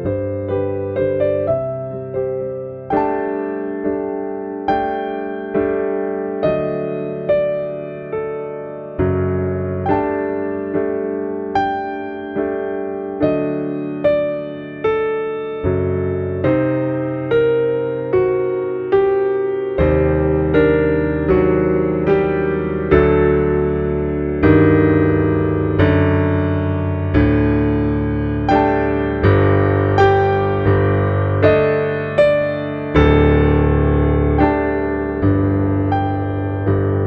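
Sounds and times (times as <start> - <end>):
slow piano music: 0.0 - 37.0.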